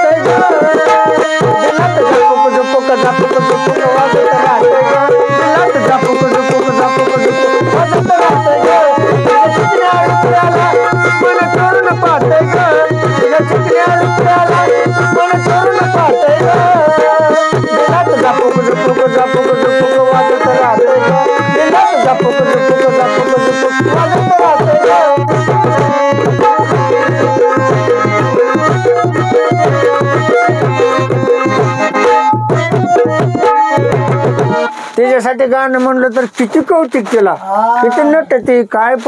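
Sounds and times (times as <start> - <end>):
hand drum rhythm: 0.0 - 39.0.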